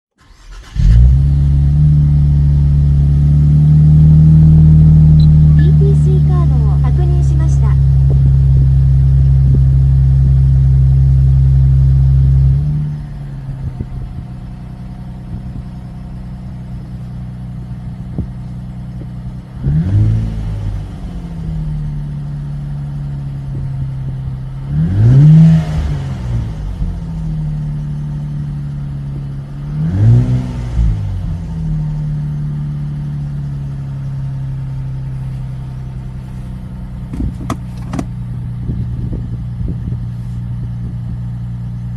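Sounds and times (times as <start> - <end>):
car engine idling and revving: 0.2 - 41.9.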